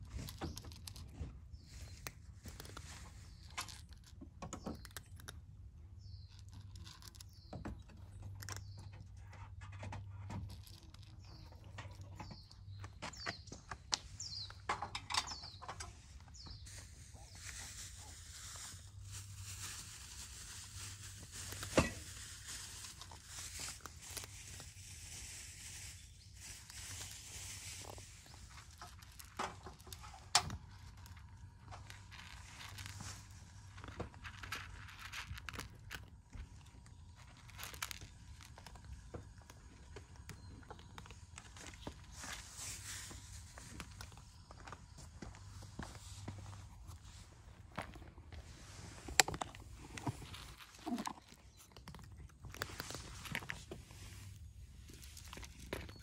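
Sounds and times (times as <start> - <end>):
cats crunching dry food: 0.0 - 15.0, 15.7 - 56.0.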